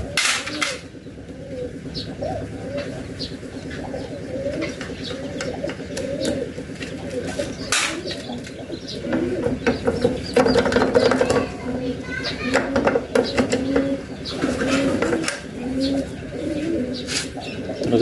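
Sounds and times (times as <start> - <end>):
birds cooing: 0.0 - 18.0.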